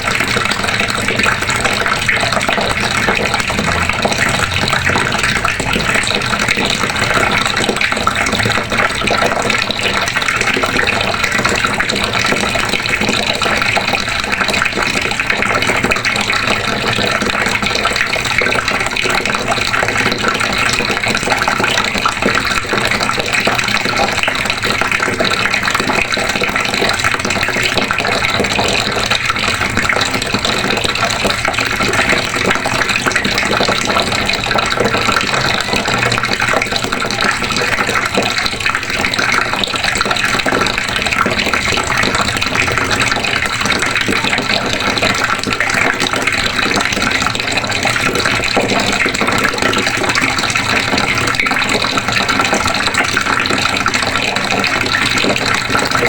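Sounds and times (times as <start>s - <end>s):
water running from a faucet: 0.0s - 56.0s.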